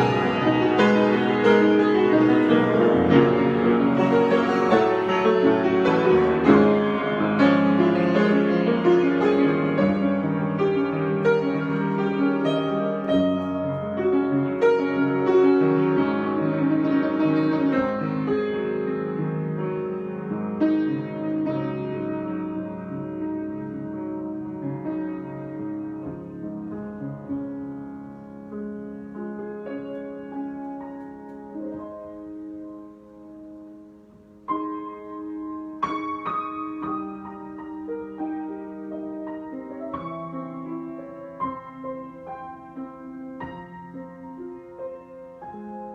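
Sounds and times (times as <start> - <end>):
solo piano: 0.0 - 45.9.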